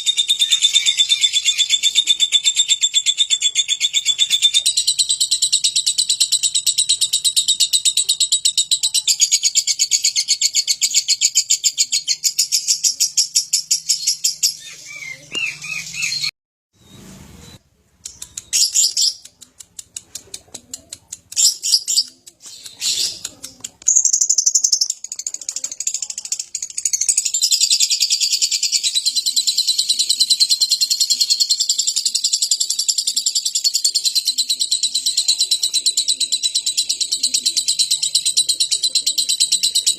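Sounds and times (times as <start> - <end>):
lovebird chattering trill: 0.0 - 16.3, 20.7 - 39.9.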